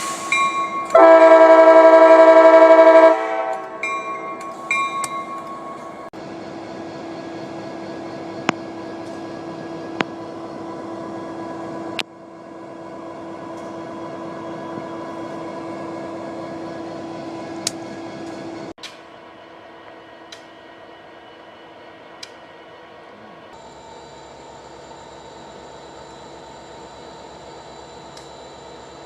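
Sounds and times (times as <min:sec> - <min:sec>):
diesel locomotive engine drone: 0:00.0 - 0:29.0.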